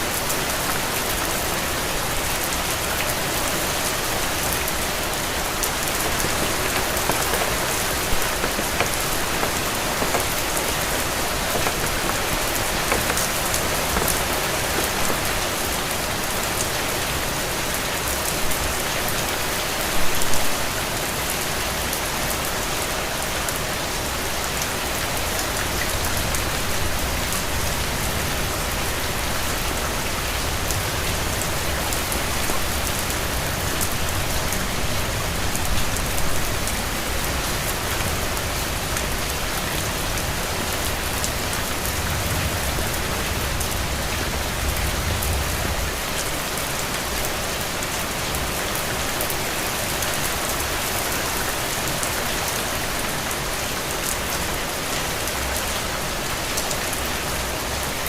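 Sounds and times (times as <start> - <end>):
rain on hard surfaces: 0.0 - 58.0.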